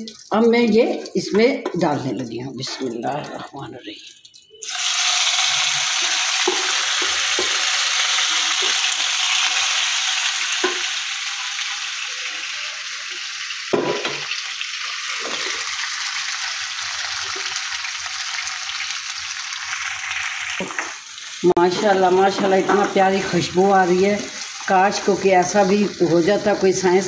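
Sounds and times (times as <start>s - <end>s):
meat sizzling in oil: 4.4s - 27.0s.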